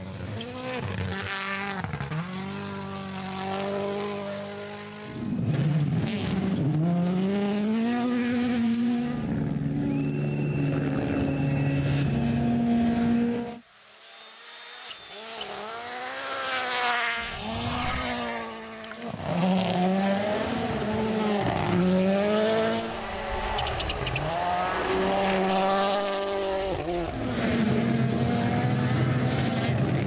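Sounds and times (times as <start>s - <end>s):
rally car engine revving: 0.0s - 13.6s, 14.2s - 30.0s.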